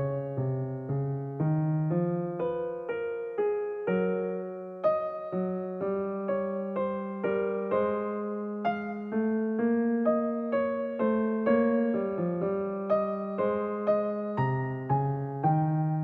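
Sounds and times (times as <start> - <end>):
slow electric piano melody: 0.0 - 16.0.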